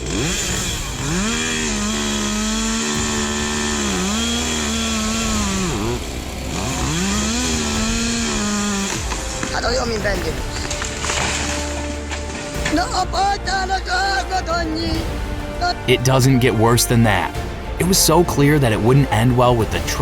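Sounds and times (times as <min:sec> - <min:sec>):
chainsaw engine revving: 0:00.0 - 0:20.0.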